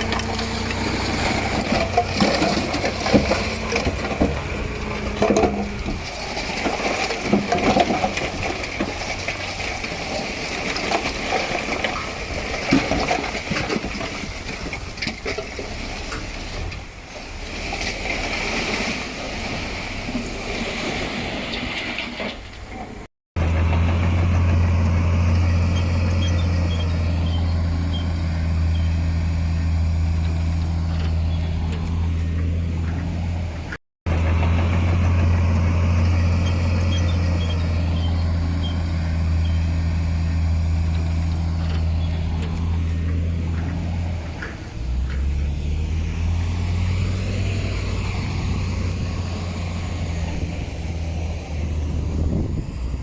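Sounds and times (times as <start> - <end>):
heavy diesel engine running: 0.0 - 20.5, 23.4 - 53.0.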